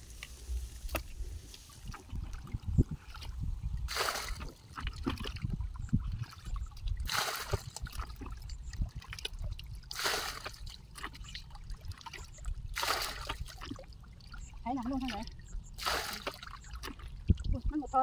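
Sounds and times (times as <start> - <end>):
water pouring and splashing: 0.0 - 18.0
water sloshing in bucket: 1.6 - 18.0.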